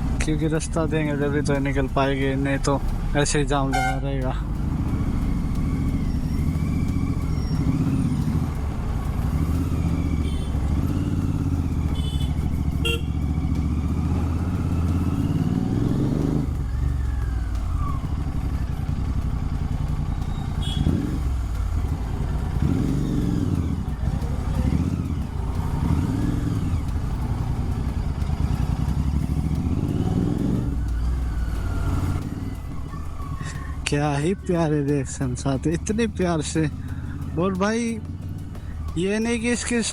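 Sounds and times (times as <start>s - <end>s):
motorcycle engine at low speed: 0.0s - 39.9s.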